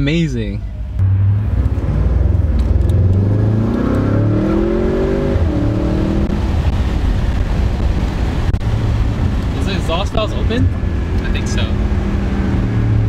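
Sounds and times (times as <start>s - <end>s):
car engine accelerating: 0.6s - 13.0s.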